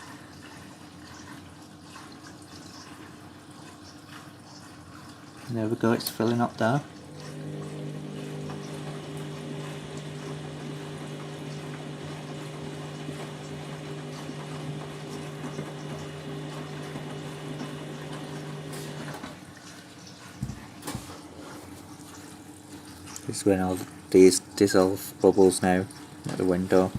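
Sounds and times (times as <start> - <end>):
fill valve hum: 0.0 - 26.9
water rushing into drum: 0.0 - 26.9.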